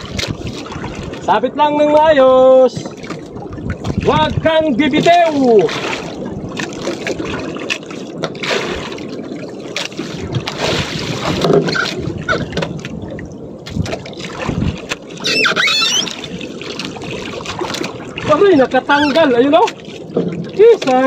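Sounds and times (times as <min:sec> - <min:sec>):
wind on microphone: 0:00.0 - 0:20.9
sea water sloshing around boat: 0:00.0 - 0:21.0.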